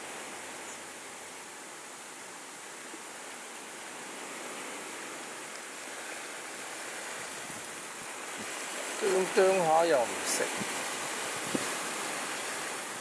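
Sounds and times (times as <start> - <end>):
sea water washing along shore: 0.0 - 13.0.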